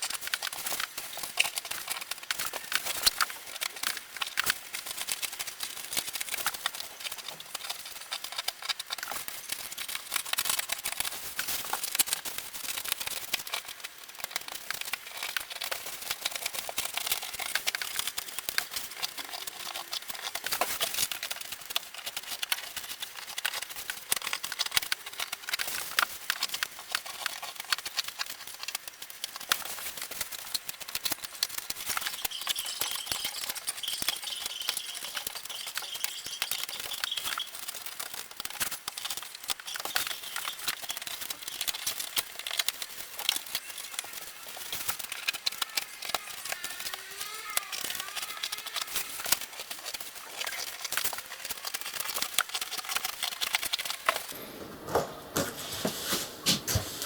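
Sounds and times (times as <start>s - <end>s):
dense scratching and crackling: 0.0s - 57.0s.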